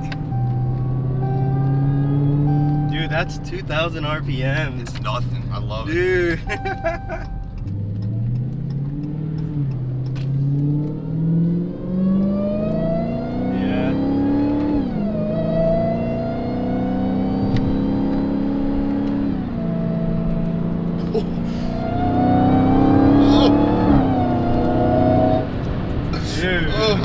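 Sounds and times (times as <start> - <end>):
car engine accelerating: 0.0 - 26.8.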